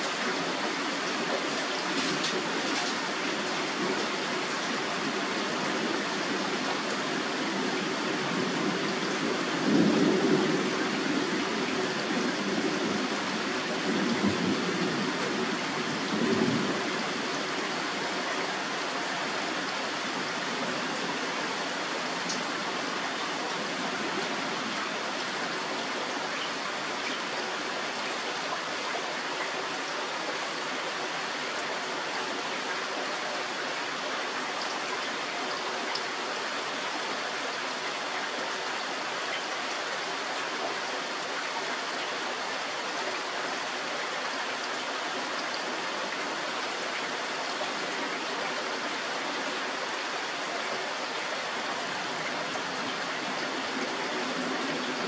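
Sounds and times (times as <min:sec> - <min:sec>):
steady heavy rain hiss: 0:00.0 - 0:55.0.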